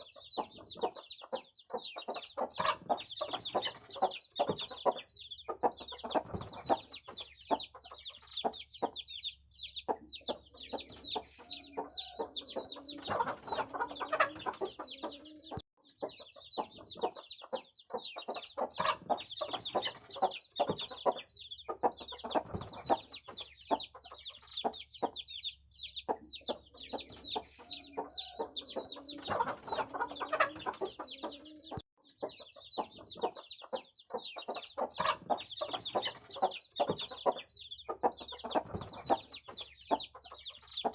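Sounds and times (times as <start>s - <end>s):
chicken clucking: 0.0s - 40.9s
chicks peeping: 0.0s - 40.9s.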